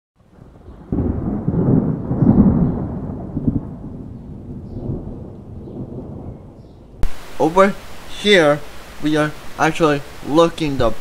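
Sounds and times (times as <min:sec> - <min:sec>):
thunder rumbling: 0:00.2 - 0:11.0.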